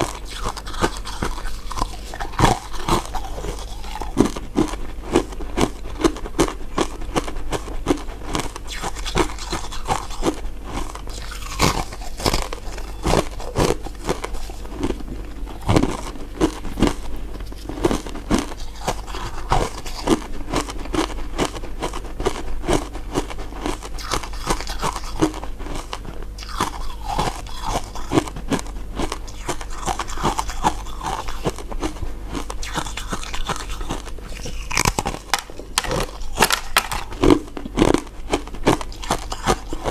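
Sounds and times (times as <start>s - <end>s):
crunching and chewing ice dessert: 0.0s - 39.9s.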